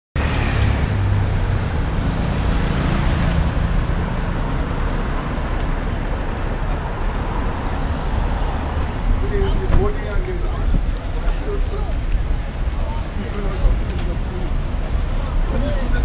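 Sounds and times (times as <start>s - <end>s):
road traffic rumble: 0.2s - 16.0s.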